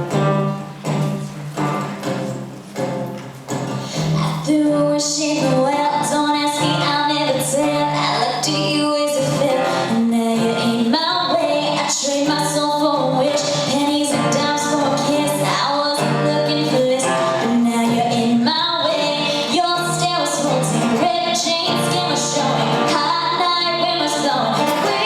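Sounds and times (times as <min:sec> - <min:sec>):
woman singing pop song: 0:03.9 - 0:25.0.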